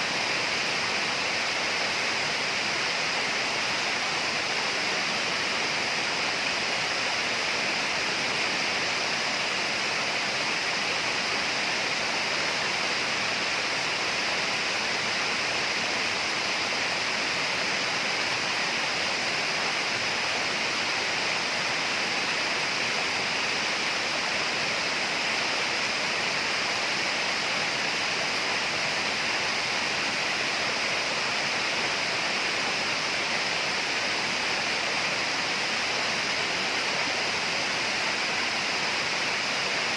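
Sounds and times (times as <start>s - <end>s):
rainforest rushing noise: 0.0s - 39.9s.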